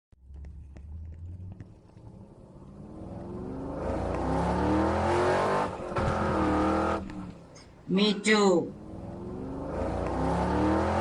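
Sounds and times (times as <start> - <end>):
vehicle engine accelerating: 0.1 - 7.5, 8.7 - 11.0.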